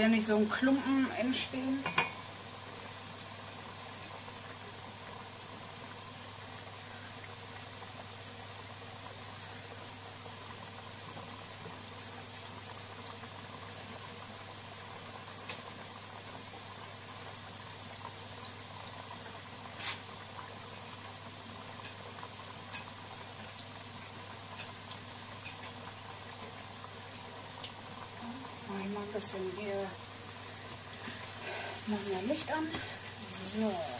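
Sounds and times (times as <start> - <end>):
fries sizzling in hot oil: 0.0 - 33.9.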